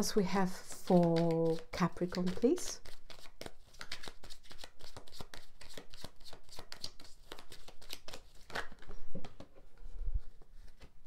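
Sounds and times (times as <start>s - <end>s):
cards shuffled by hand: 0.4s - 11.0s.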